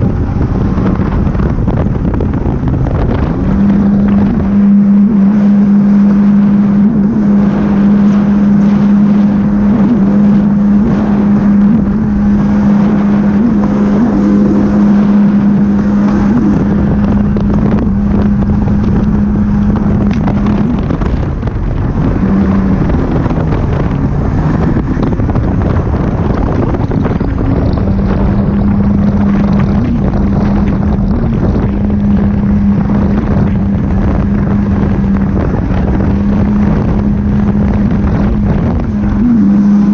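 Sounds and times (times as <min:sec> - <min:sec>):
jet ski engine droning: 0:00.0 - 0:39.9
wind buffeting microphone: 0:00.0 - 0:39.9.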